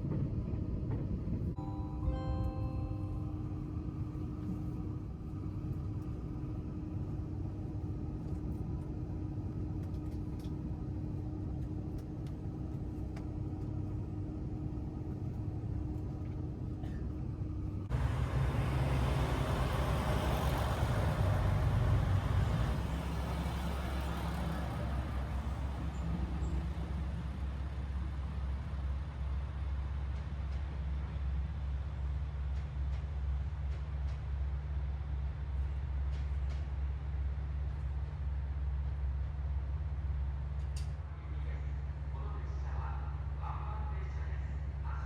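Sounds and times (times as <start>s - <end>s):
diesel railcar engines idling: 0.0s - 45.0s.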